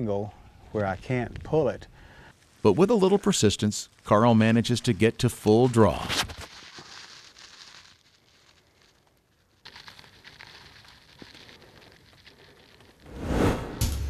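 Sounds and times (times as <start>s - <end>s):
faint rustling and crackling: 0.0s - 13.1s.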